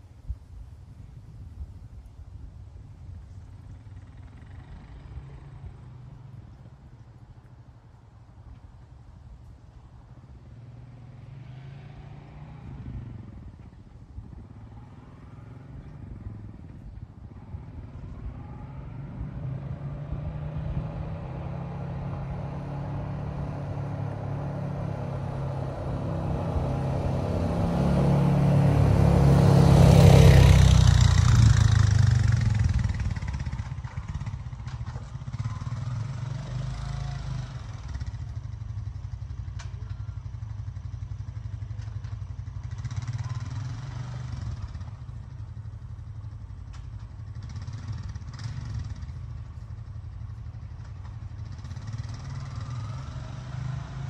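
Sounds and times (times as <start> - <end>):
atv engine running: 3.0 - 7.6, 12.5 - 54.0.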